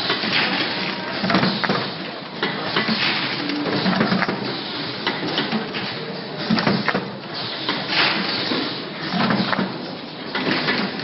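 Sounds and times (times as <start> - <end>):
machine clacks and knocks: 0.0 - 11.0.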